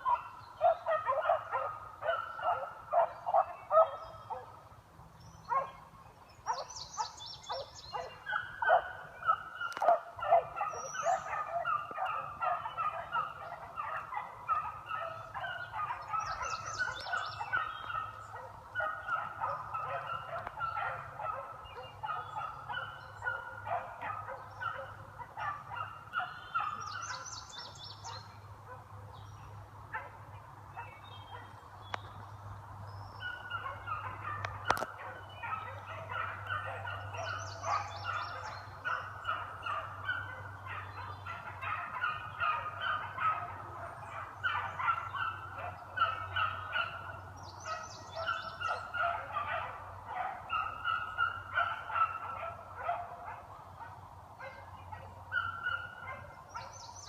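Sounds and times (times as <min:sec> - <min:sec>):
dogs baying: 0:00.0 - 0:04.6, 0:06.4 - 0:29.2, 0:33.2 - 0:57.0.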